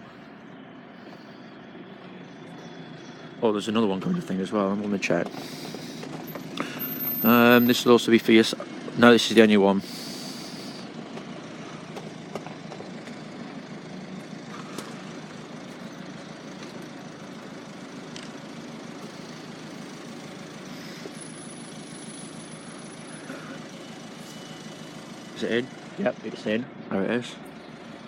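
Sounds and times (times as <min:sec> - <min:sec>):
idling vehicles humming: 0:00.0 - 0:28.0.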